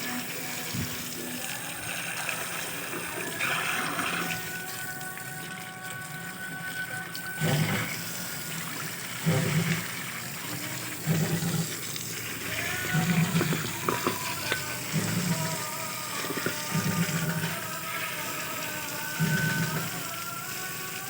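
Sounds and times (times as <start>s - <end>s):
water splashing and gushing: 0.0s - 21.0s.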